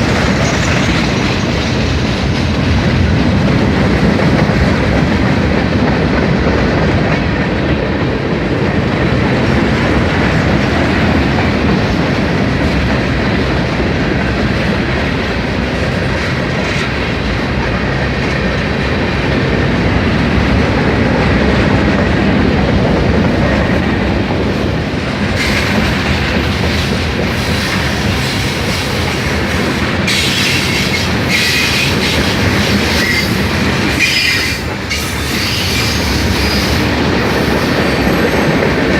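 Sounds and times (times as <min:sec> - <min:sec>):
train wheels clacking over rail joints: 0:00.0 - 0:38.9.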